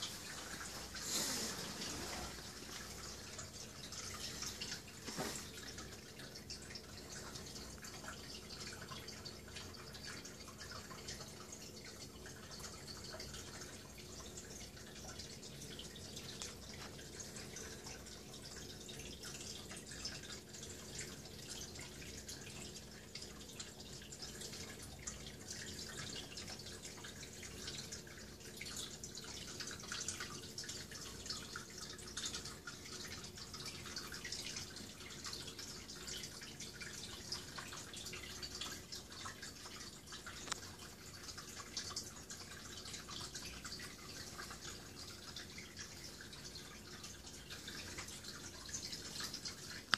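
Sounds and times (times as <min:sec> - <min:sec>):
aquarium water trickling: 0:00.0 - 0:49.9.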